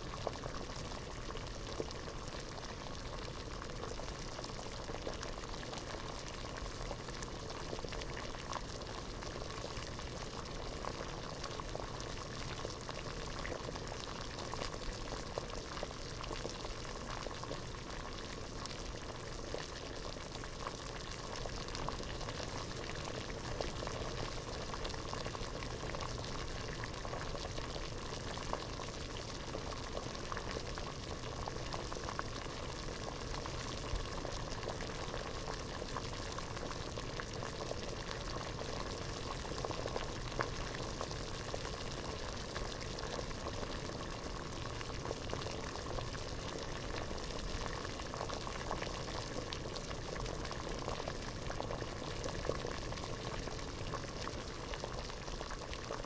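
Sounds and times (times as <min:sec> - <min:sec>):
water boiling in a pot: 0:00.0 - 0:56.0.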